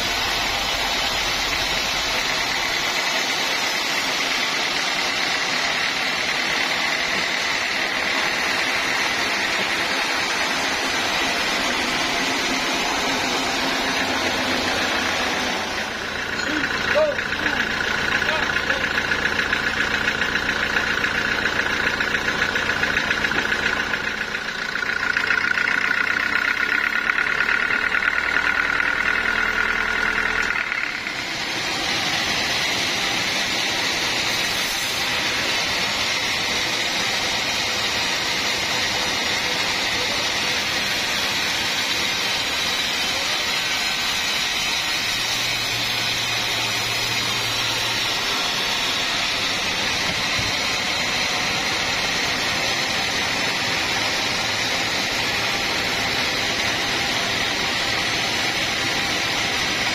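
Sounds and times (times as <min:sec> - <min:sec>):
band saw sawing through log: 0:00.0 - 0:59.9.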